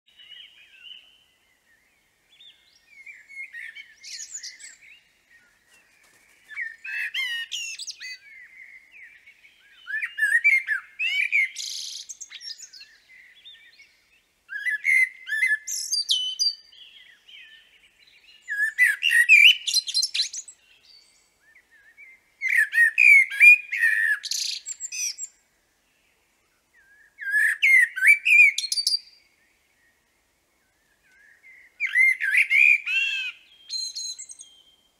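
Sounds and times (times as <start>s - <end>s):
blackbird singing: 0.1s - 30.0s, 30.6s - 34.9s.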